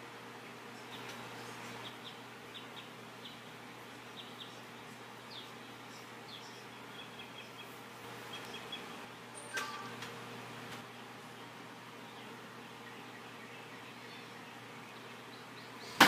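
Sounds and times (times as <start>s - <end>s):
steady hiss and hum: 0.0s - 16.0s.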